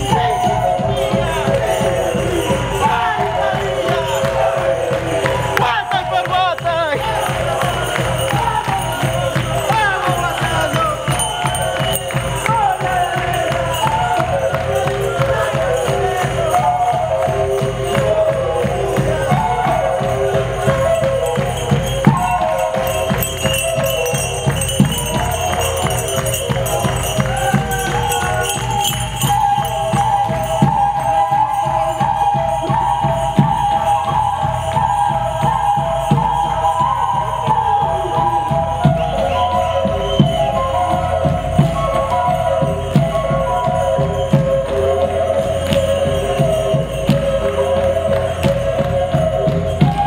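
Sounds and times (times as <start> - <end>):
folk band melodic line: 0.0 - 50.0
steady drumbeat: 0.0 - 50.0.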